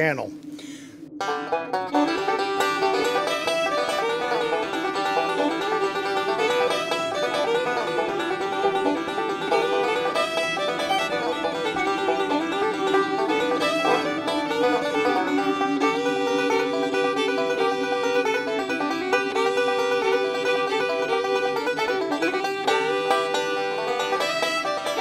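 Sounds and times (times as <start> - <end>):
bluegrass banjo music: 1.2 - 25.0.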